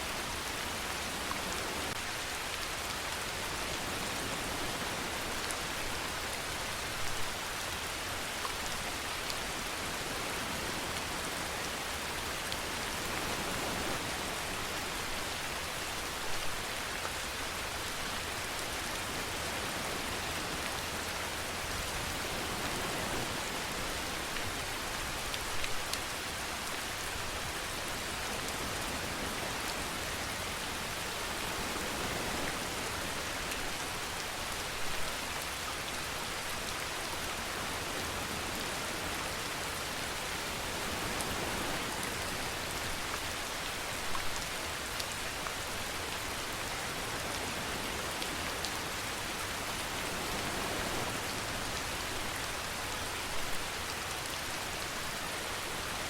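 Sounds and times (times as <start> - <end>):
rain drops on a surface: 0.0 - 56.0.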